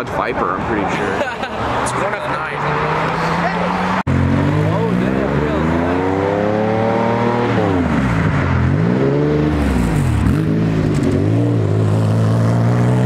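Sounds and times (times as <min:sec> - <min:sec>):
car engine accelerating past: 0:01.8 - 0:13.0.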